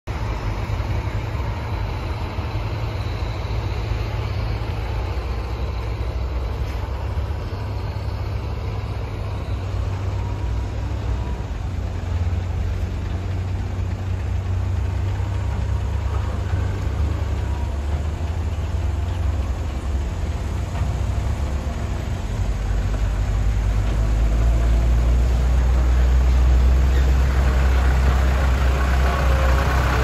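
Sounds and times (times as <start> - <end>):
heavy diesel engines droning: 0.0 - 30.0.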